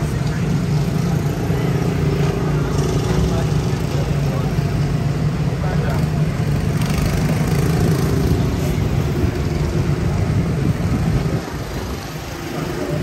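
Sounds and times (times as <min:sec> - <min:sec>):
ride train rumbling on track: 0:00.0 - 0:13.0.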